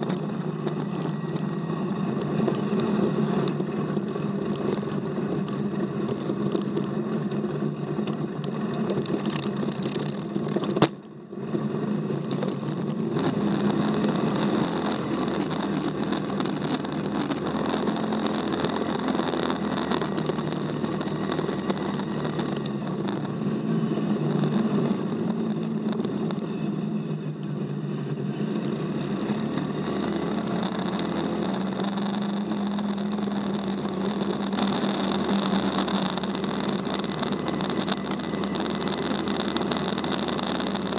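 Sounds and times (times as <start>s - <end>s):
buggy engine running: 0.0s - 40.9s.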